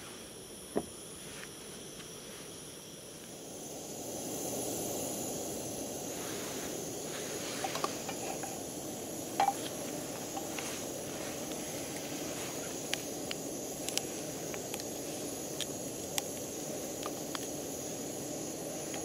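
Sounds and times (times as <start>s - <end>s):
gas stove burner hissing: 0.0s - 19.0s.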